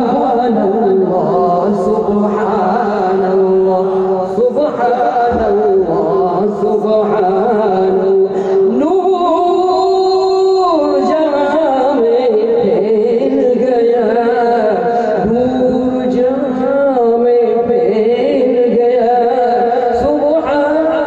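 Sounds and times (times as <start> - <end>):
man chanting devotional poem: 0.0 - 21.0.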